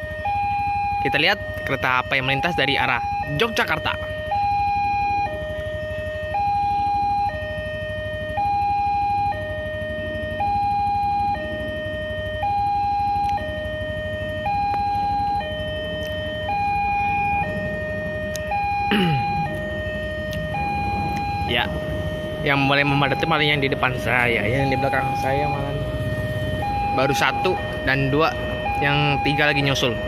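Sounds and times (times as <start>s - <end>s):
level crossing two-tone alarm: 0.0s - 30.0s.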